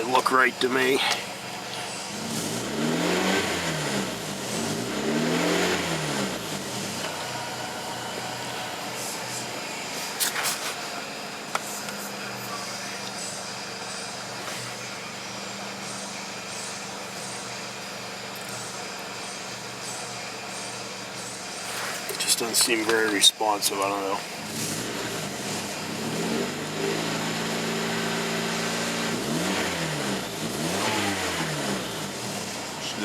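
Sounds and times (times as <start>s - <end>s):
car engine revving and idling: 0.0s - 33.0s.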